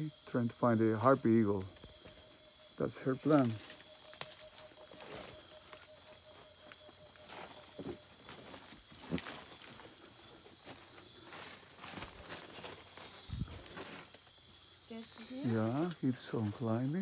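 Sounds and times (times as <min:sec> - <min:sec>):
insects pulsing trill: 0:00.0 - 0:17.0
rustles among leaves: 0:02.8 - 0:17.0.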